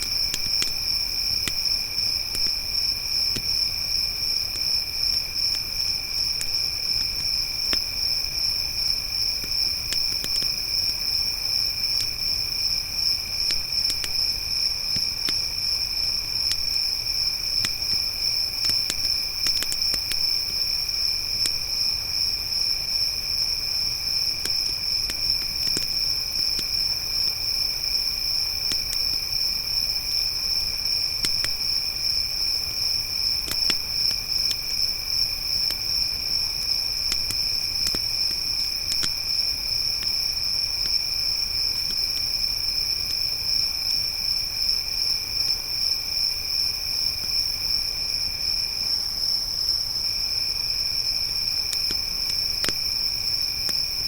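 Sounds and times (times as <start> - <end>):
campfire crackling: 0.0 - 43.9, 51.0 - 54.0
crickets trilling: 0.0 - 54.0.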